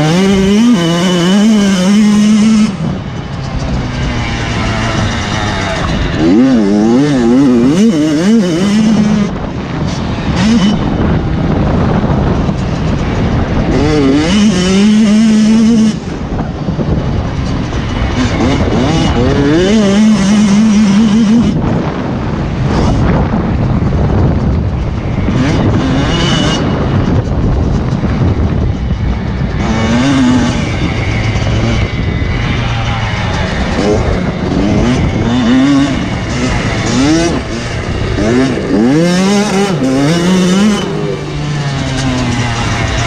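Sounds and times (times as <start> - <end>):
motocross bike engines revving: 0.0 - 43.0.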